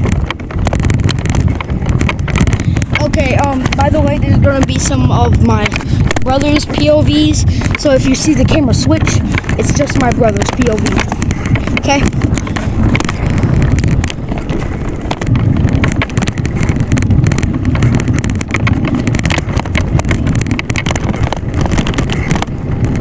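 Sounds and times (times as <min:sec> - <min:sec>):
bicycle clicks and rattles: 0:00.0 - 0:23.0
wind buffeting microphone: 0:00.0 - 0:23.0.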